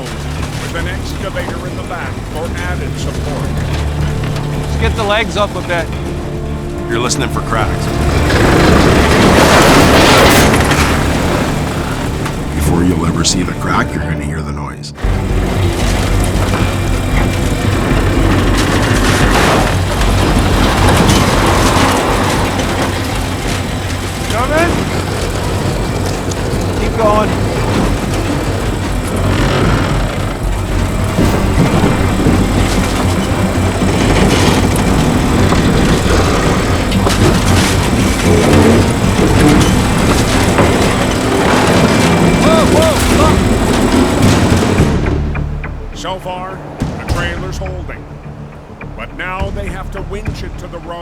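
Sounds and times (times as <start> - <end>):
heavy diesel engine under load: 0.0 - 14.4, 15.0 - 51.0.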